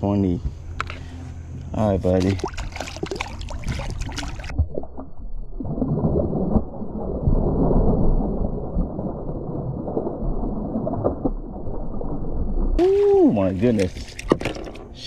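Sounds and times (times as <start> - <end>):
muffled water sloshing: 0.5 - 15.0.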